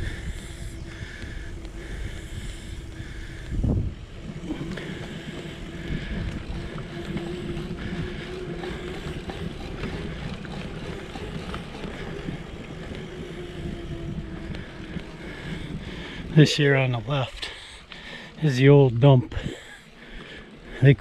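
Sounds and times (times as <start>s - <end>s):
wind rushing over microphone: 0.0s - 17.1s
bicycle tyres rumbling on asphalt: 0.0s - 19.0s, 19.8s - 21.0s
steady hum: 0.0s - 21.0s.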